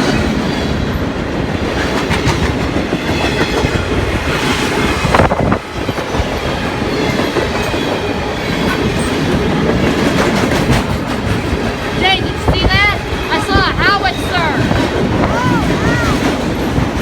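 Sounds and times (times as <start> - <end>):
freight train wheels clacking: 0.0 - 17.0.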